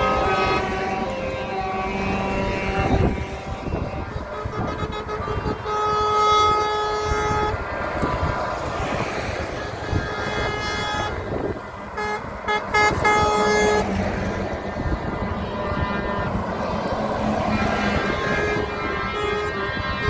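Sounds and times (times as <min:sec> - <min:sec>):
truck air horns: 0:00.0 - 0:20.0
trucks passing: 0:00.0 - 0:20.0.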